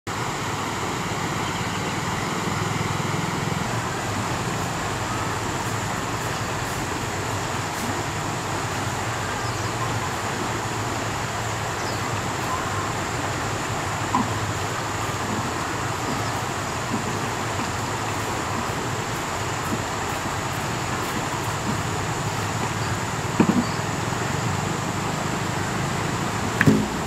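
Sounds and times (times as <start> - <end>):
fast-flowing river rushing: 0.1 - 27.0.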